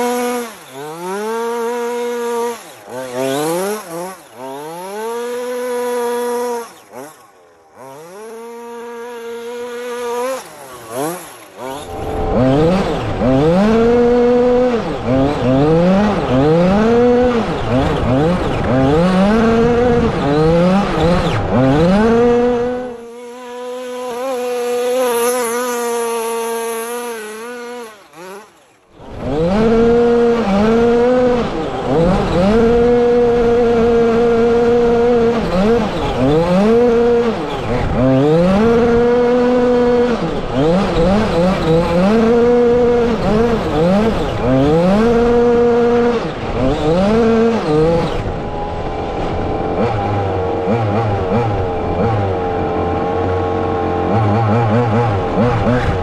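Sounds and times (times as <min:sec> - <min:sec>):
rc car engine revving: 0:00.0 - 0:56.0.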